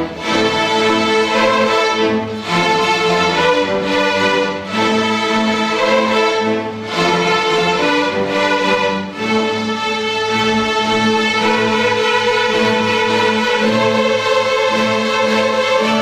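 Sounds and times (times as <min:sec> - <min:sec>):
string orchestra playing held chords: 0:00.0 - 0:16.0.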